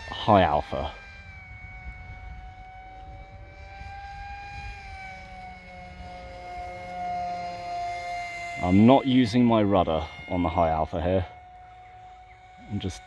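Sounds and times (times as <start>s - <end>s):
model plane motor whining: 0.0s - 13.0s
wind on microphone: 0.0s - 13.0s.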